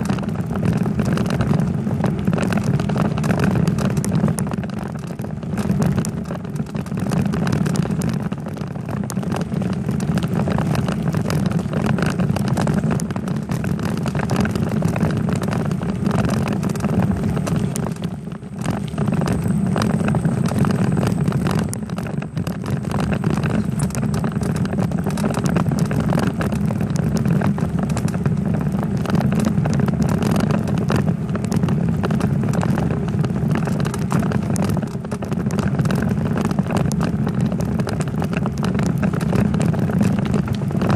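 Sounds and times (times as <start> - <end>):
bicycle road rumble and rattle: 0.0 - 40.9
small knocks from road vibration: 0.0 - 40.9.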